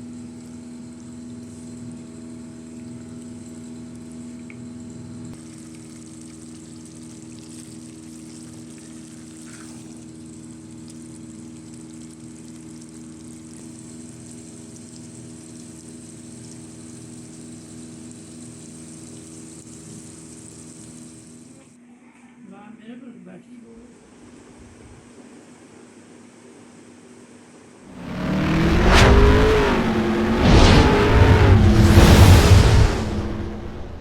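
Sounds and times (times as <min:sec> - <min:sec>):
machine hum with light hiss: 0:00.0 - 0:31.4.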